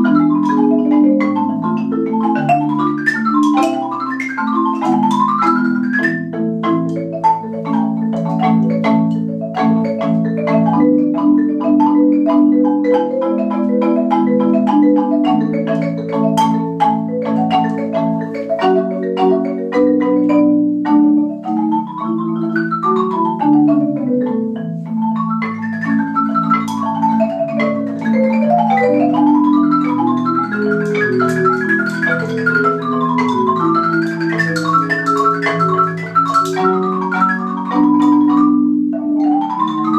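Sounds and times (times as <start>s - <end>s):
marimba duet: 0.0s - 39.9s.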